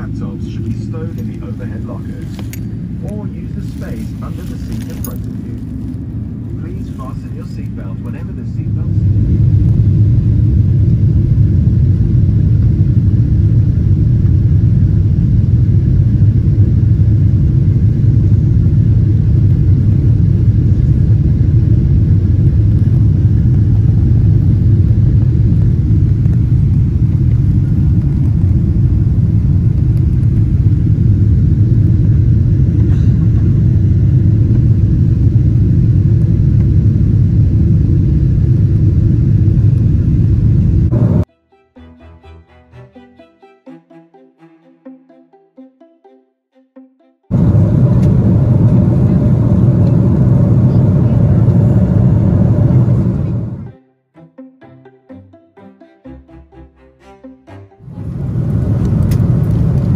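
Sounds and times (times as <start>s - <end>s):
jet engines rumbling in cabin: 0.0s - 41.3s, 47.3s - 53.7s, 57.8s - 59.9s.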